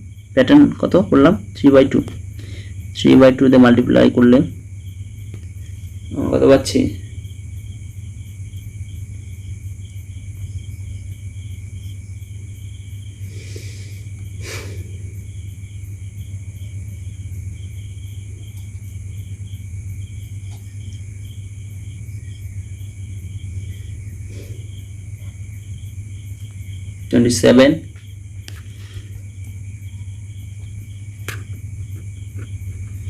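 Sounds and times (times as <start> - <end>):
low electrical hum with hiss: 0.0 - 33.0.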